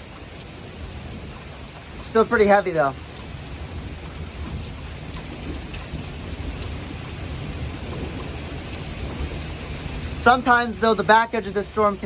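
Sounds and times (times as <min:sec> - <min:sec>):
heavy rain hissing: 0:00.0 - 0:12.0
low thunder rumble: 0:00.0 - 0:12.0
rain drop hits: 0:00.0 - 0:12.0.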